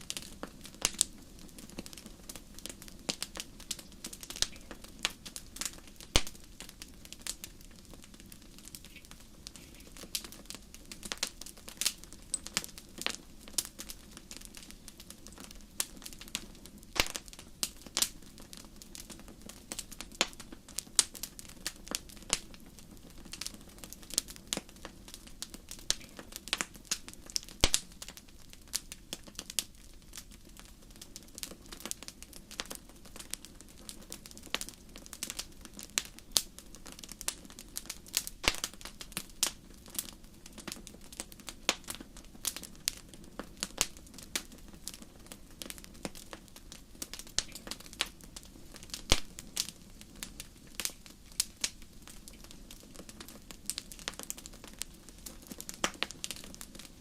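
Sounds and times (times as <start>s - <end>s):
low steady hiss: 0.0s - 57.0s
wood fire crackling and popping: 0.0s - 57.0s.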